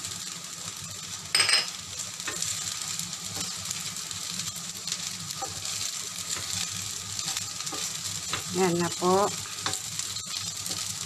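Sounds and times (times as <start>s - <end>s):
rice sizzling in a hot pan: 0.0s - 11.0s.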